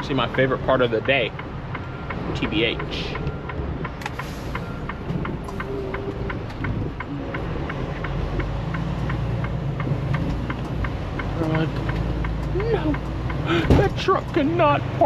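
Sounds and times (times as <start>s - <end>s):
diesel truck engine running: 0.0s - 15.0s
steady ticking: 0.0s - 15.0s.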